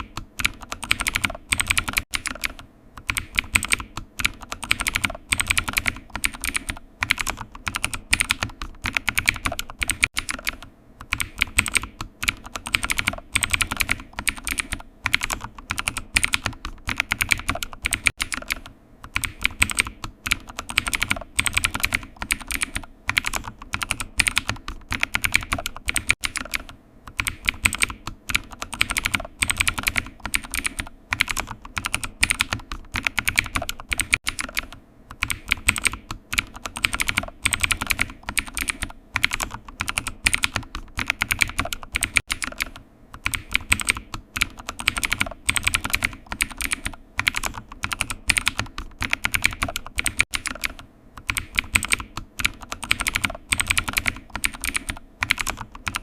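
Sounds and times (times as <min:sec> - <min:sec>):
typing on keyboard: 0:00.0 - 0:56.0.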